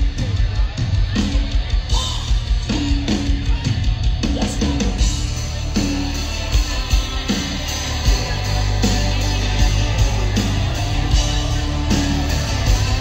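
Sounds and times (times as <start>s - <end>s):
live country rock band: 0.0s - 13.0s.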